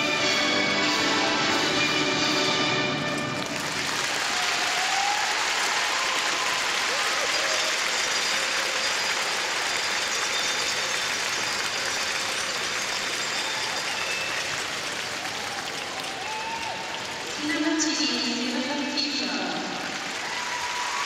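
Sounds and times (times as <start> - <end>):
crowd applauding: 3.1 - 21.0
crowd cheering: 3.1 - 21.0.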